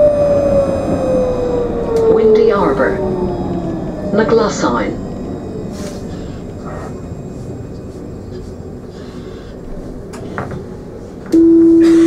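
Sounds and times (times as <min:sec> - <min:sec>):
loud steady tone: 0:00.0 - 0:10.1, 0:11.3 - 0:12.0
tram wheels rumbling on rail: 0:00.0 - 0:12.0.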